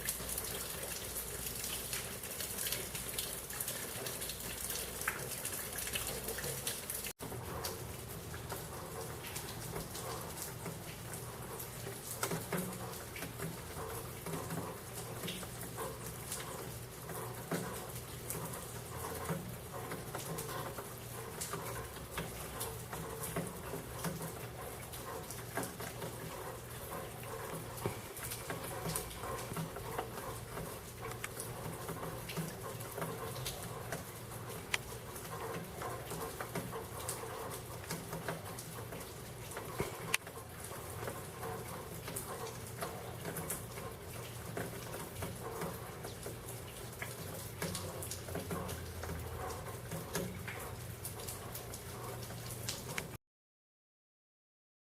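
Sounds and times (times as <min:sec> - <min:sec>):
rain falling on leaves: 0:00.0 - 0:53.2.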